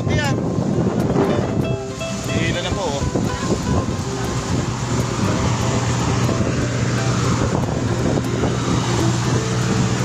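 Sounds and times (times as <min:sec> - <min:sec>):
boat engine droning: 0:00.0 - 0:10.0
wind and water hiss: 0:00.0 - 0:10.0.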